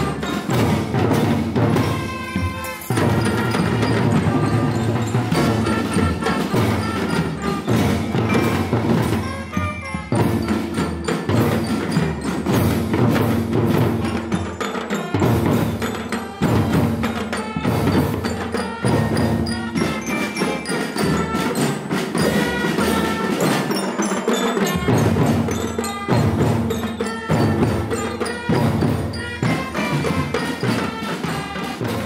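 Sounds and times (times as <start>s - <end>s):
snare and tenor drums: 0.0s - 32.0s.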